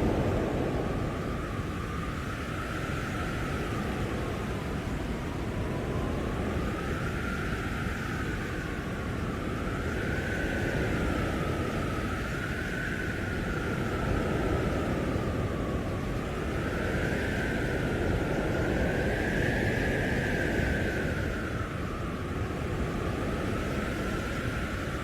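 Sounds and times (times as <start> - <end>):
blizzard wind rushing: 0.0 - 25.0
howling whistle: 0.0 - 25.0.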